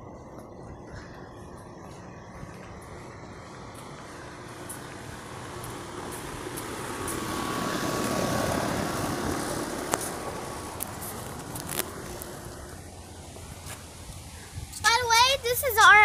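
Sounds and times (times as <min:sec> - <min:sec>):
vehicle passing by: 0:00.0 - 0:15.9.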